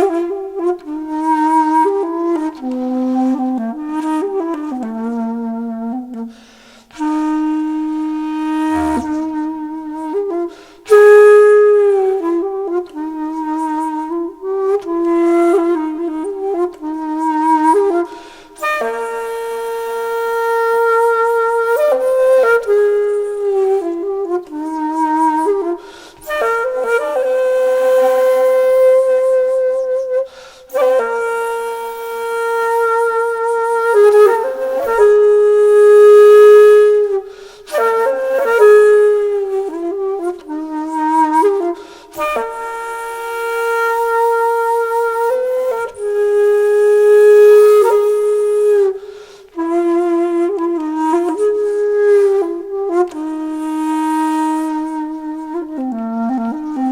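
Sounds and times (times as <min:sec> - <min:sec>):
solo wind instrument melody: 0:00.0 - 0:56.9.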